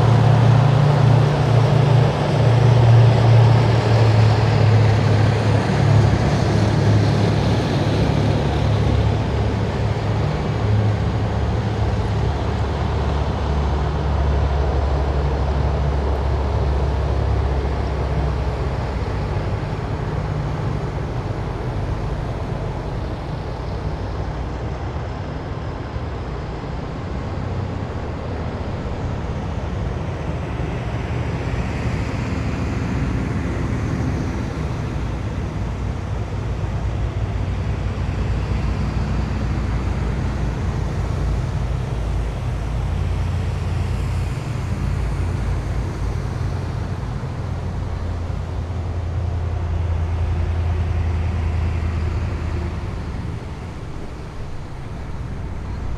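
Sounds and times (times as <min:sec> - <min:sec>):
faint vehicle whine: 0:00.0 - 0:55.9
heavy vehicles engine rumble: 0:00.0 - 0:55.9.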